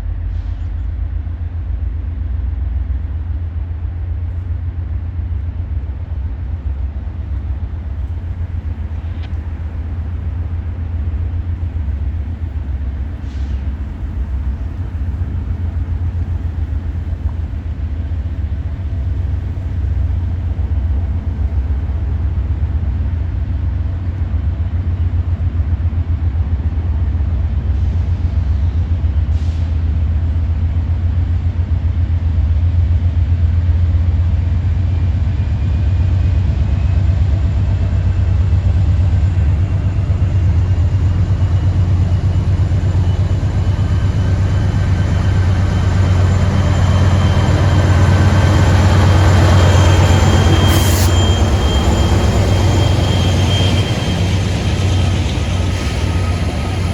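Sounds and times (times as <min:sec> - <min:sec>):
diesel locomotive engines rumbling: 0:00.0 - 0:56.9.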